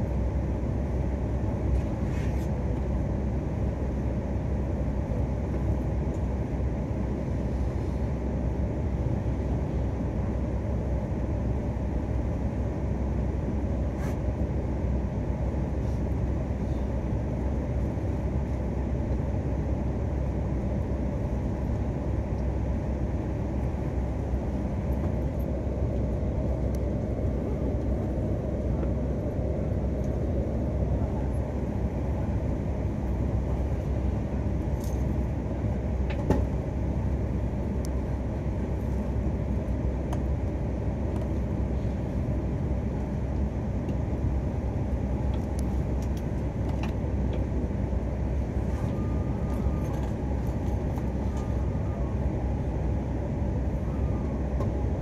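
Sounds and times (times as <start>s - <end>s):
train equipment humming: 0.0s - 55.0s.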